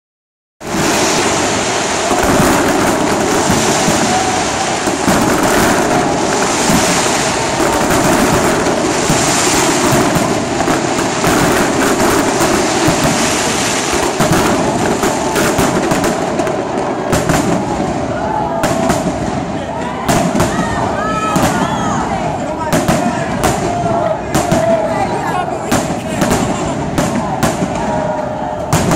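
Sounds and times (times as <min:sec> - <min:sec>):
fireworks bangs and crackles: 0:00.6 - 0:28.9.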